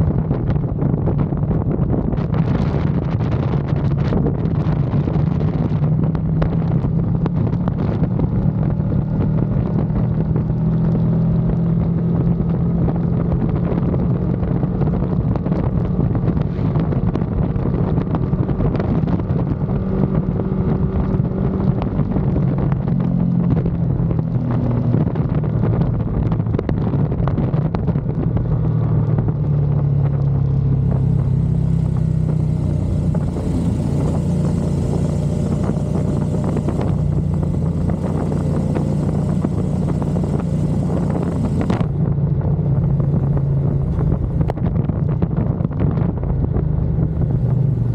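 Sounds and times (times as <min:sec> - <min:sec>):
motorcycle engine running: 0:00.0 - 0:47.9
wind noise: 0:00.0 - 0:47.9.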